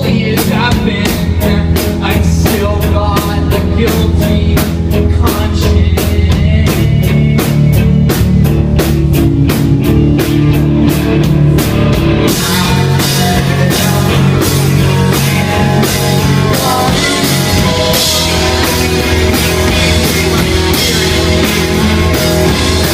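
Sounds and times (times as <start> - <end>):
rock song with drums bass guitar: 0.0 - 22.9.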